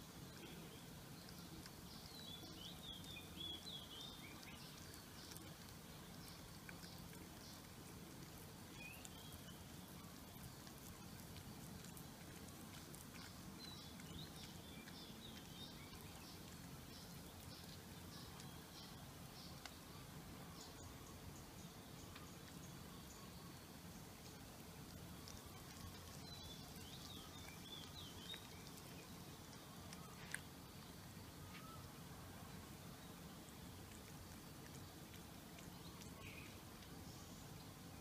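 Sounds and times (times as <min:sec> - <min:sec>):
faint chirps: 0:00.0 - 0:38.0
low steady hum: 0:00.0 - 0:38.0.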